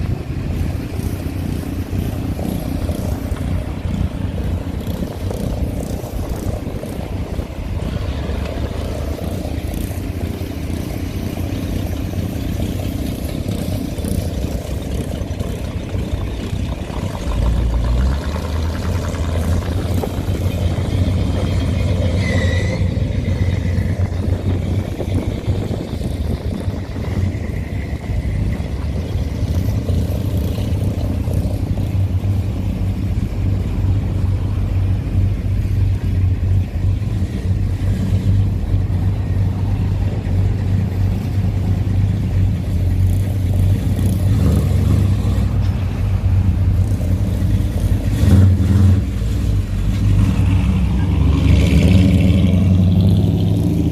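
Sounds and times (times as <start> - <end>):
hot rod engines rumbling: 0.0 - 53.9.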